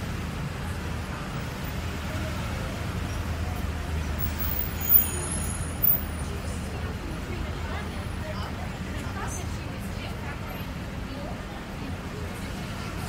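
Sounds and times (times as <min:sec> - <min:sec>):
brief loud street sounds: 0:00.0 - 0:13.0
road traffic rumble: 0:00.0 - 0:13.0.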